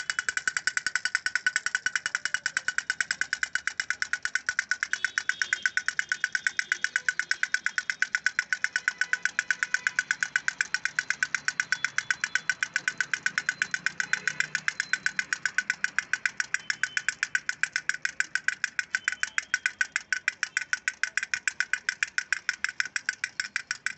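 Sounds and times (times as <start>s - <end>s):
toy drum tapping: 0.0s - 23.9s.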